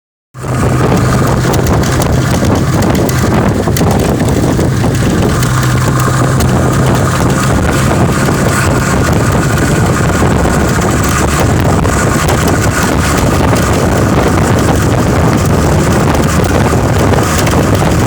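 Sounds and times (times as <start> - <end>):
engine drone: 0.4 - 18.0
wind on microphone: 0.4 - 18.0.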